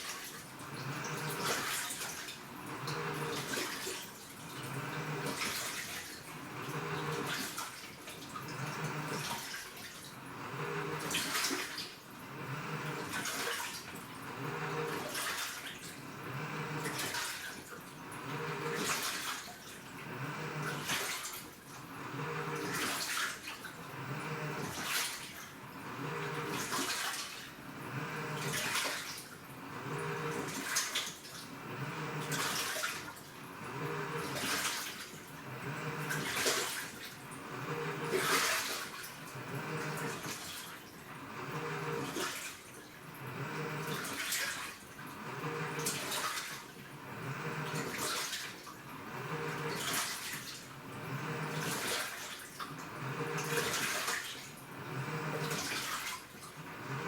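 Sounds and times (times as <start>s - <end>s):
washing machine motor hum: 0.0s - 57.0s
water sloshing in washing machine: 0.0s - 57.0s.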